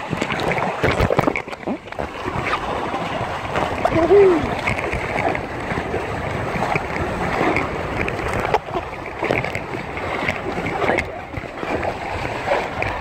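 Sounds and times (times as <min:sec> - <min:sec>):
water rushing along boat hull: 0:00.0 - 0:13.0
wind buffeting microphone: 0:00.0 - 0:13.0.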